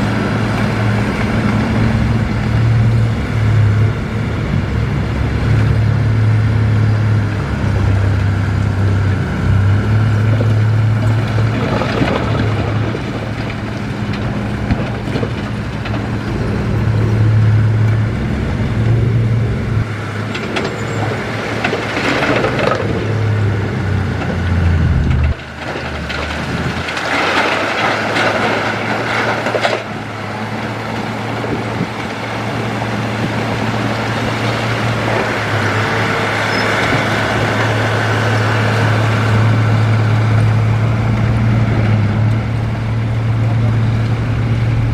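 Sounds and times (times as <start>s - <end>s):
diesel engine drone: 0.0s - 44.9s
rough mechanical noise bursts: 0.0s - 44.9s.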